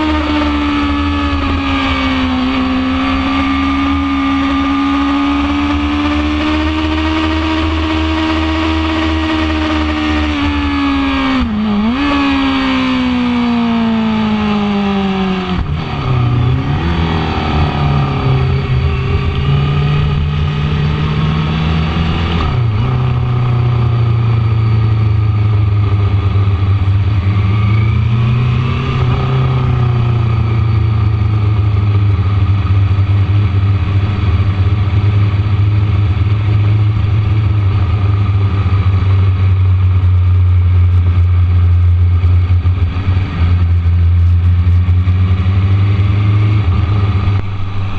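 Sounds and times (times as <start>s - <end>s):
motorcycle engine: 0.0s - 47.9s.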